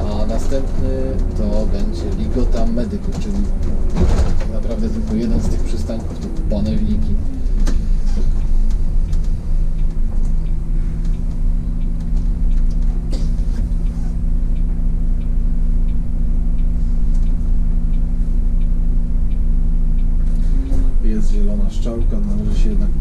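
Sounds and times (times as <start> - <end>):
bus engine idling: 0.0 - 23.0
faint regular ticking: 0.0 - 23.0.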